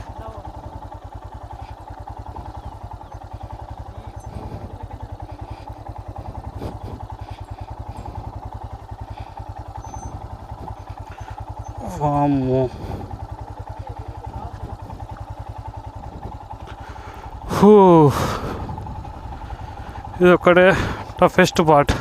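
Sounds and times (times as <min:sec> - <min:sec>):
motorcycle engine thumping: 0:00.0 - 0:21.2.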